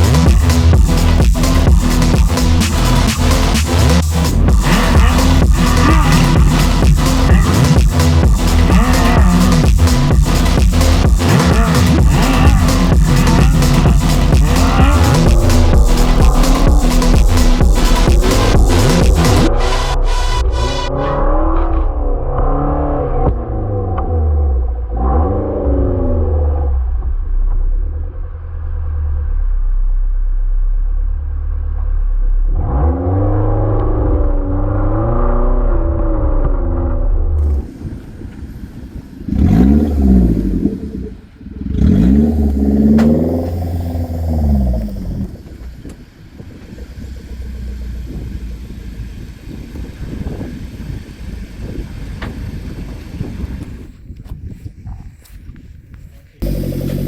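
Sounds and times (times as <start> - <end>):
engine rumbling and revving: 0.0 - 53.9, 56.4 - 57.0.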